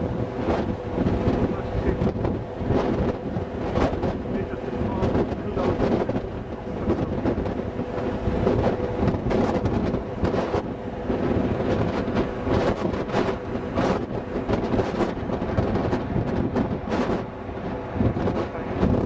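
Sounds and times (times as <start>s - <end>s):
ship engines rumbling: 0.0s - 19.0s
wind gusting on microphone: 0.0s - 19.0s.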